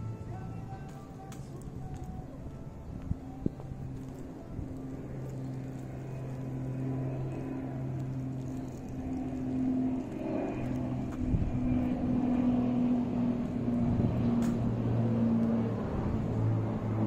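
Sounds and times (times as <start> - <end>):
street background noise: 0.0 - 17.0.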